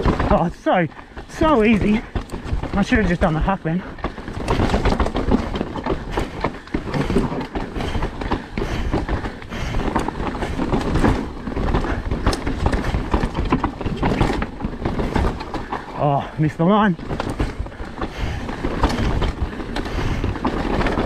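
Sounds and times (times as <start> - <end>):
bike rattling and clattering: 0.0 - 21.0
bike tyres rolling over dirt: 0.0 - 21.0.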